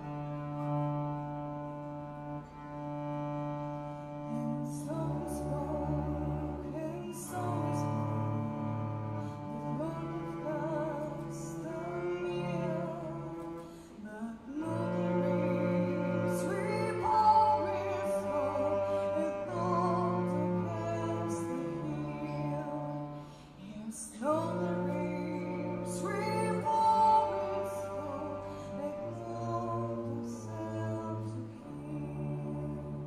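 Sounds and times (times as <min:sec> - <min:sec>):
cellos playing slow melody: 0:00.0 - 0:33.0
woman singing with vibrato: 0:04.2 - 0:33.0.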